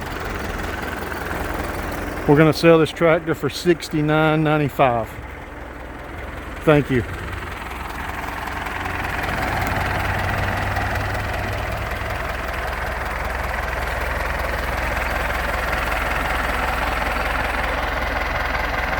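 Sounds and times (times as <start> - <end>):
tractor diesel engine idling: 0.0 - 18.9.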